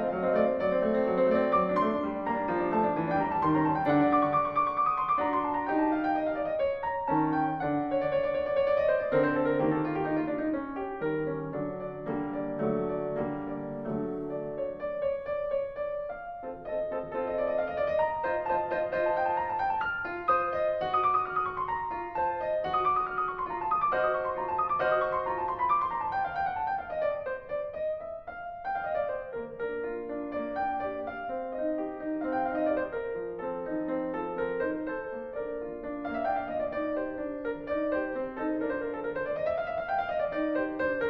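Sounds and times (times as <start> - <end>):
background piano music: 0.0 - 41.0.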